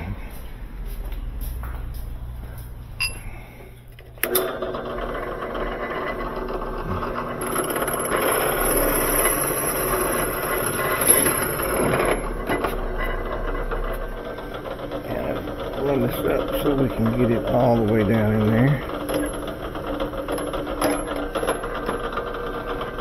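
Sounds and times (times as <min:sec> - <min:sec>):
drill press running: 0:03.1 - 0:23.0.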